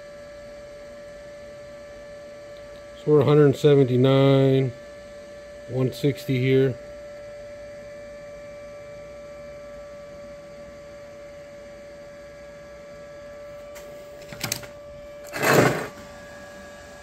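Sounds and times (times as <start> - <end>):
electrical hum with high whine: 0.0 - 17.0.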